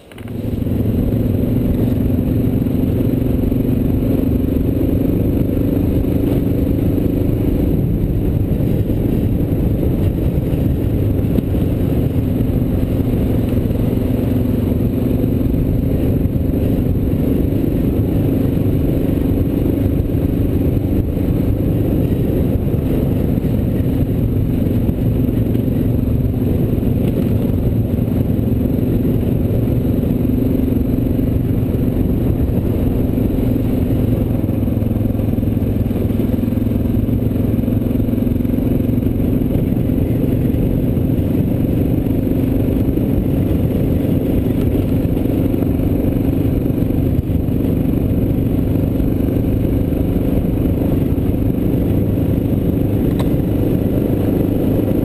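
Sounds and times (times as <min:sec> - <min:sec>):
motorcycle engine running: 0:00.0 - 0:55.0
wind rush: 0:00.0 - 0:55.0.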